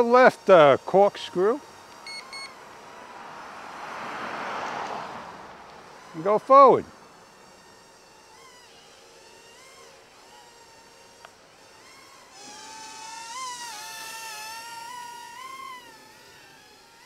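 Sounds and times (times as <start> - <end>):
toy helicopter motors whining: 0.0 - 3.9, 4.8 - 17.0.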